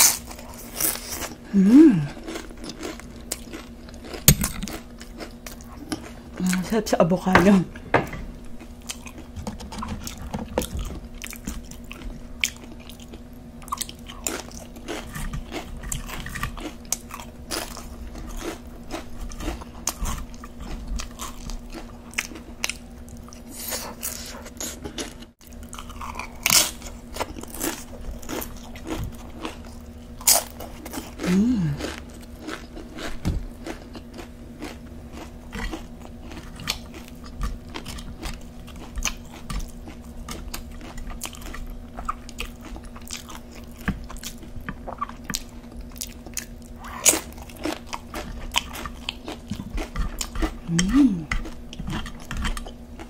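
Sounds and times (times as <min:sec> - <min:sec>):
crunching and chewing chips: 0:00.0 - 0:06.9, 0:08.4 - 0:53.0
faint steady hum: 0:00.0 - 0:53.0.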